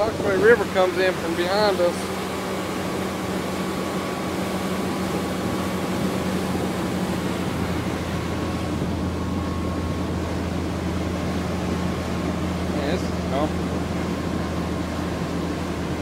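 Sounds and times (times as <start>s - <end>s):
boat motor droning: 0.0s - 16.0s
rushing wind: 0.0s - 16.0s
water noise: 0.0s - 16.0s.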